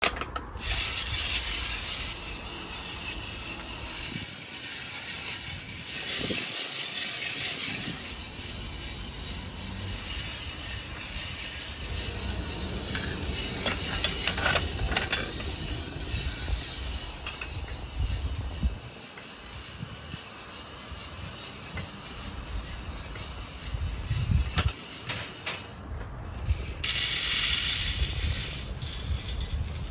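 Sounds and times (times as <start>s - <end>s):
coffee beans rattling in drum roaster: 0.5s - 25.8s, 26.4s - 29.9s.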